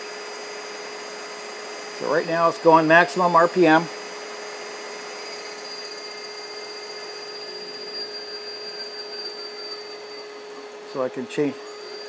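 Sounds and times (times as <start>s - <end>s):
electric motor whirring with whine: 0.0s - 12.0s.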